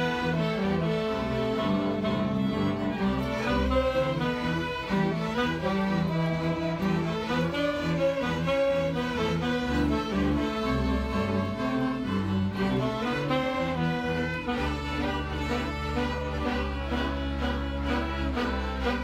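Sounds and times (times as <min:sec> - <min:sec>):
double bass: 0:00.0 - 0:19.0
violins and bowed strings: 0:00.0 - 0:19.0.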